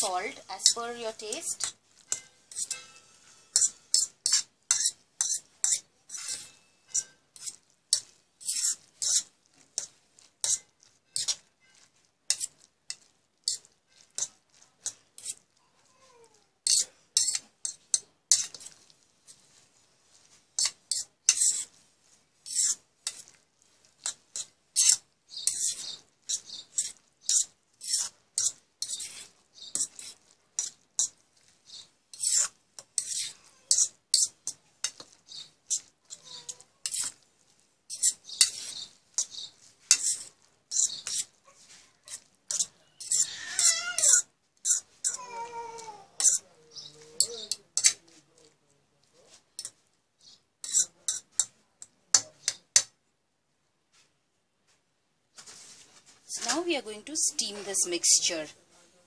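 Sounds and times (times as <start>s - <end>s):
spatula scraping and stirring in pan: 0.0s - 53.1s, 53.9s - 59.0s.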